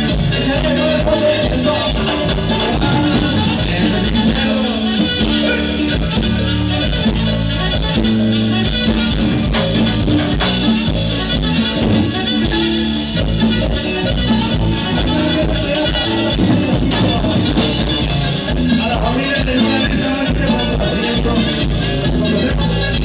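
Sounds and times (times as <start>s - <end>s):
live band playing latin music: 0.0s - 23.0s.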